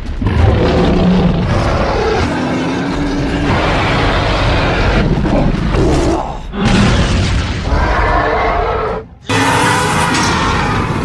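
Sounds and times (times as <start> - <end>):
heavy low rumble: 0.0 - 9.2.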